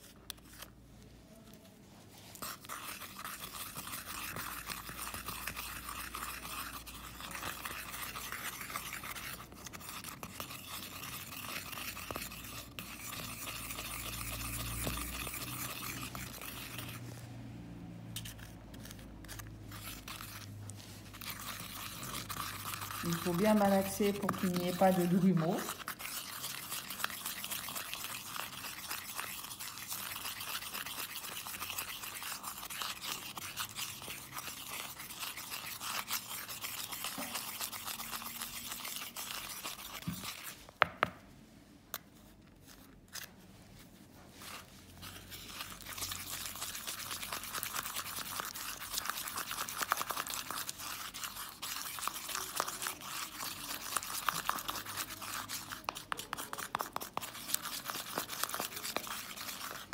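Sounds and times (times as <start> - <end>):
spatula scraping plaster in bowl: 0.0 - 41.2, 41.9 - 59.9.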